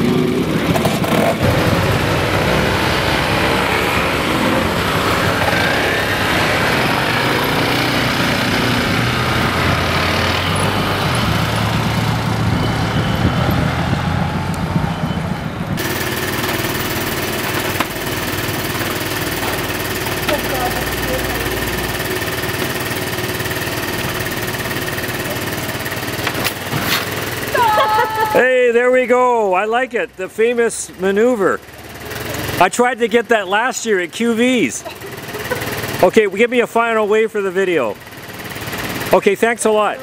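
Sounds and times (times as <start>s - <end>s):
scooter engine idling: 0.0s - 12.6s, 15.8s - 28.6s, 30.0s - 40.0s
scooter engines revving: 0.0s - 40.0s.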